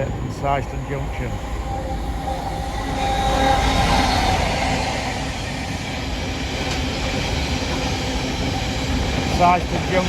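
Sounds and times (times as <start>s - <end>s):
steady tones: 0.0s - 9.4s
freight train wheels and wagons: 0.0s - 10.0s.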